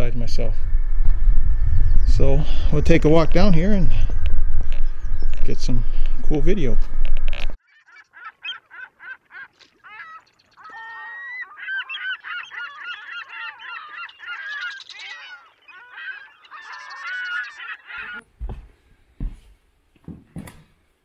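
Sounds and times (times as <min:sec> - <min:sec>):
birds honking: 0:00.0 - 0:18.2.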